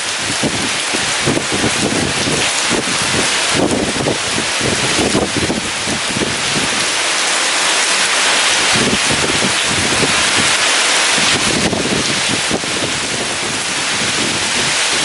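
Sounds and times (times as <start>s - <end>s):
heavy rain falling: 0.0s - 15.0s
strong wind gusts: 0.0s - 15.0s.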